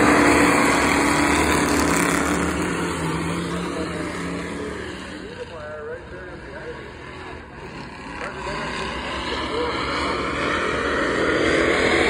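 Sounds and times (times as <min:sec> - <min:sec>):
race car engine passing: 0:00.0 - 0:12.0.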